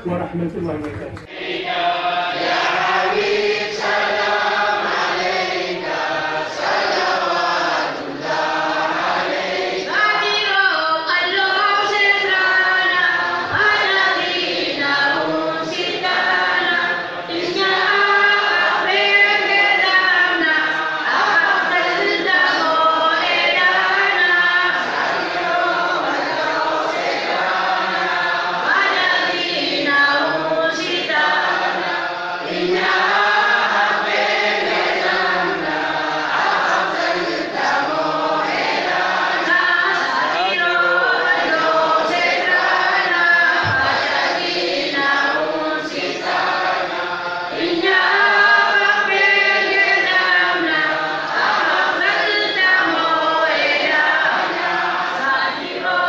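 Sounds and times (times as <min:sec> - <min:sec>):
crowd chanting: 0:01.3 - 0:56.0.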